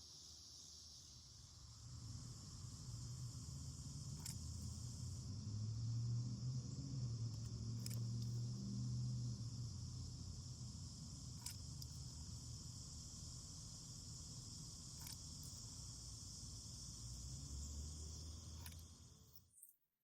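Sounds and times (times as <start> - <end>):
cicadas buzzing: 0.0 - 19.3.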